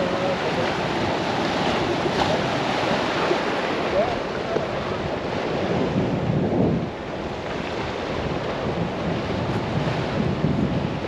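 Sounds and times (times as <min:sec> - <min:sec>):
surf washing against rocks: 0:00.0 - 0:11.0
wind buffeting microphone: 0:00.0 - 0:11.0.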